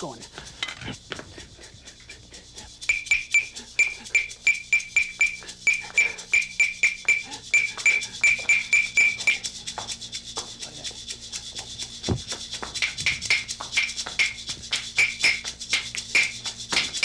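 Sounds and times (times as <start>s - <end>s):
ringing hand percussion beat: 0.0s - 17.0s.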